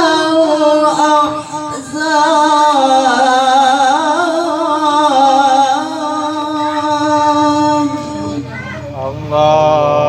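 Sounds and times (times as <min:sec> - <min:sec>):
person reciting melodically: 0:00.0 - 0:10.0.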